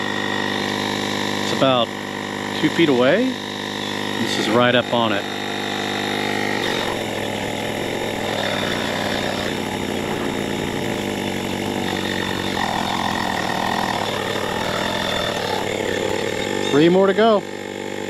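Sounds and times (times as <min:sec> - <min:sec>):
portable air compressor running: 0:00.0 - 0:18.0.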